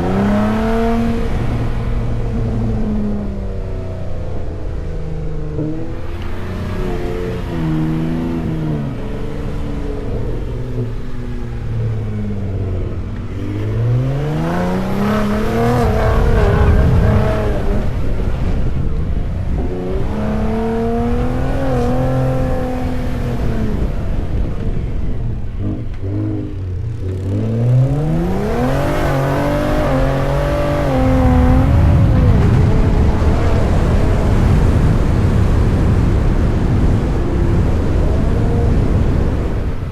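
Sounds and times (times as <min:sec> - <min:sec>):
low engine rumble: 0:00.0 - 0:39.9
truck engine revving: 0:05.4 - 0:39.9.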